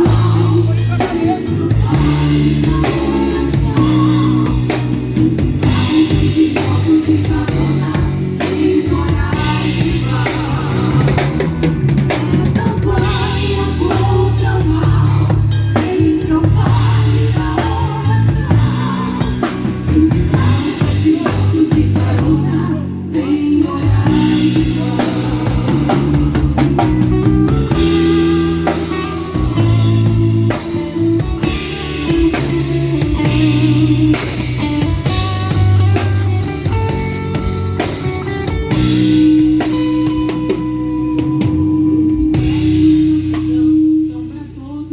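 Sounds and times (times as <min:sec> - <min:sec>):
live band playing: 0:00.0 - 0:44.9
person singing: 0:00.0 - 0:44.9.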